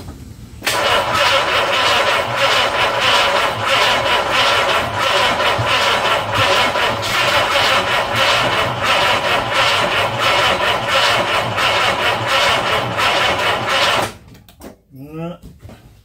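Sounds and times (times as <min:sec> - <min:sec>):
car engine cranking on starter: 0:00.6 - 0:14.2.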